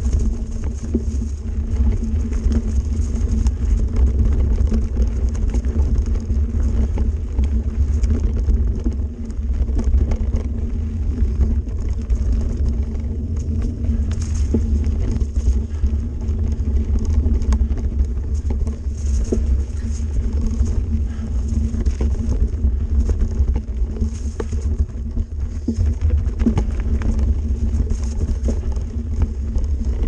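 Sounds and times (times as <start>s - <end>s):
bike clicks and rattles: 0.0s - 30.0s
bike tyre noise: 0.0s - 30.0s
wind rumble on microphone: 0.0s - 30.0s.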